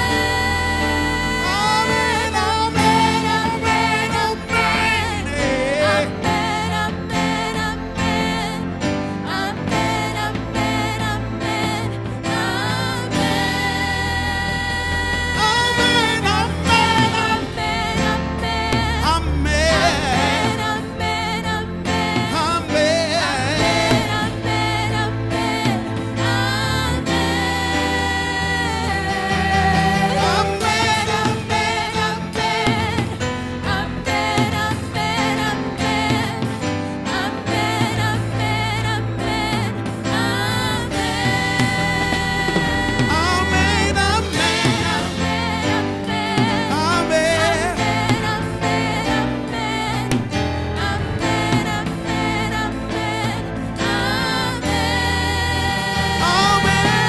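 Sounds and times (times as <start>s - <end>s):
band playing sustained chords: 0.0s - 57.0s
steady bass: 0.0s - 57.0s.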